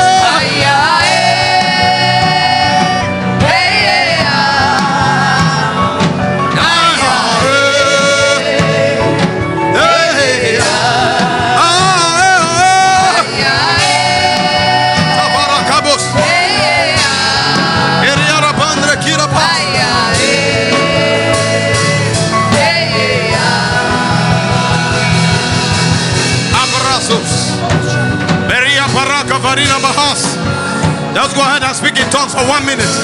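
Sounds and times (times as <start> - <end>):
instrumental accompaniment: 0.0 - 33.0
person singing worship music: 0.0 - 33.0.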